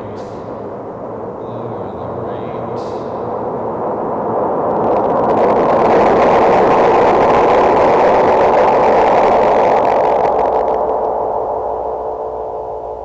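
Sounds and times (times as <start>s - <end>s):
swirling reverb noise wash: 0.0s - 13.0s.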